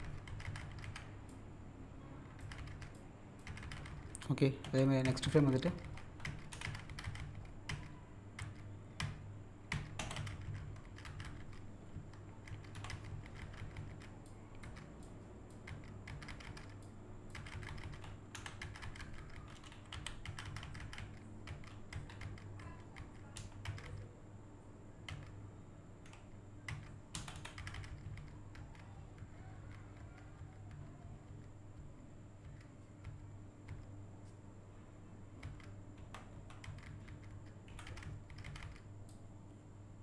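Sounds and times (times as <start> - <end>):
keyboard keys clicking: 0.0 - 1.4, 2.3 - 24.1, 26.0 - 34.4, 35.4 - 39.2
steady low hum: 0.0 - 40.0.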